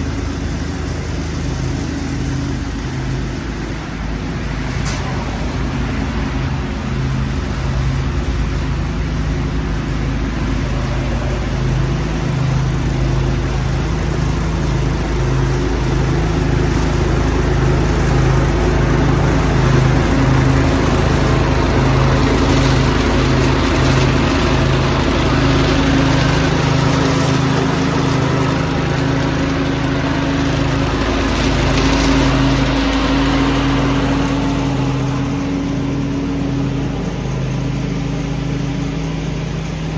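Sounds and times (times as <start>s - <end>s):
leaf vacuum air rushing: 0.0s - 39.9s
small engine running: 0.0s - 39.9s.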